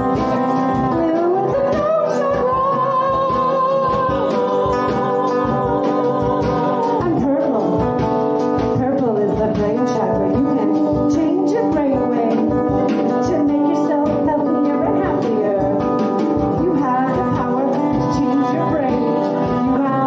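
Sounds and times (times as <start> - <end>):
guitar: 0.0 - 20.0
steady beat: 0.0 - 20.0.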